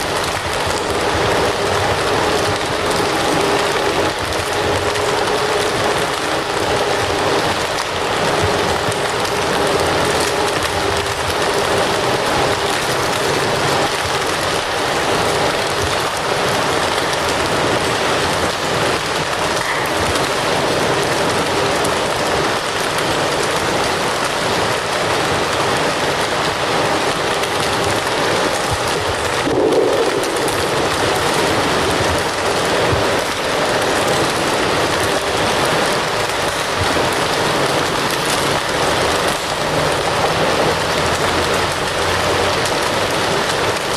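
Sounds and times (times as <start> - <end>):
fire crackling: 0.0 - 43.9.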